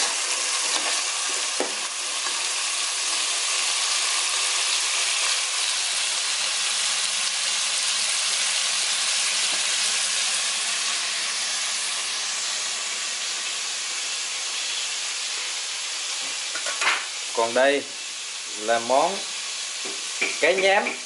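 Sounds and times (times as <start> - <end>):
tomatoes sizzling in oil: 0.0 - 21.0.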